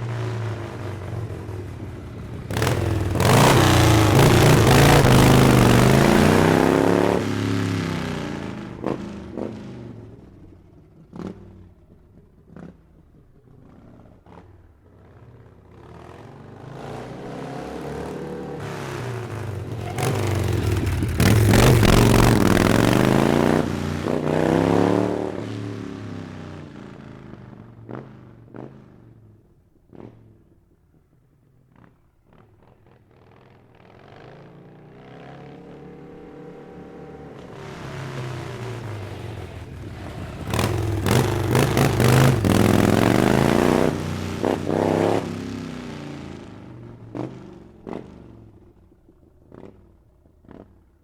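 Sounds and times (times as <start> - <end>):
motorcycle engine revving: 0.0 - 30.4, 31.7 - 51.0.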